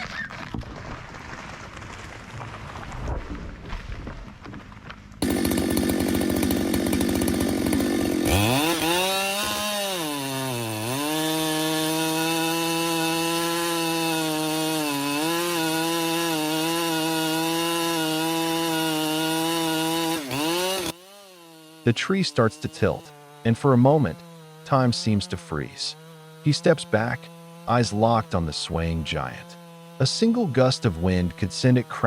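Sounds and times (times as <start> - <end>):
chainsaw cutting into tree: 5.2 - 32.0.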